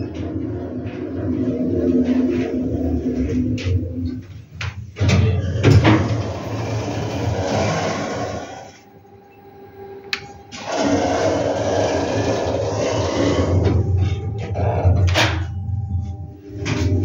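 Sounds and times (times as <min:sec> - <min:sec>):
elevator doors rumbling: 0:00.0 - 0:17.0
faint steady hum: 0:00.0 - 0:17.0.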